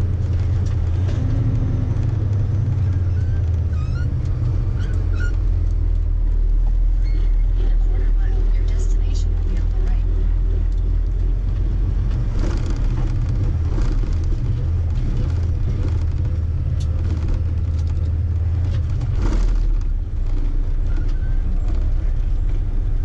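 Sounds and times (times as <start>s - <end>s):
cab knocks and rattles: 0.0s - 7.7s, 10.8s - 23.0s
truck diesel engine running: 0.0s - 23.0s.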